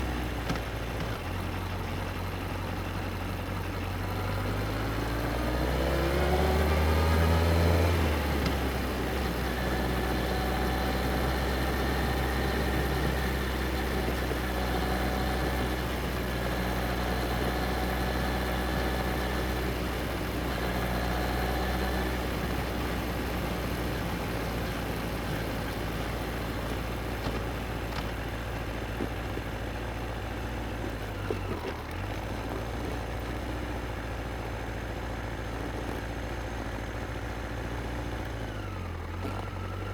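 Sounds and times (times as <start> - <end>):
road and wind noise: 0.0 - 39.9
motorcycle engine revving: 4.3 - 39.9.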